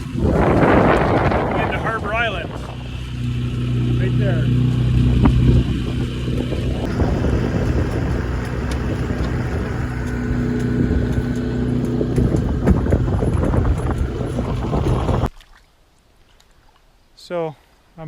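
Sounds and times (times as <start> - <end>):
outboard motor droning: 0.0 - 15.3
wind buffeting microphone: 0.0 - 15.3.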